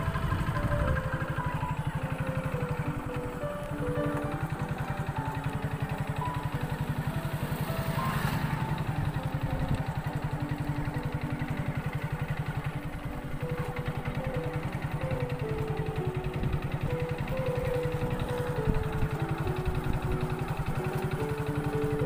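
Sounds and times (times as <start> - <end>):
background music with stepped melody: 0.0 - 22.0.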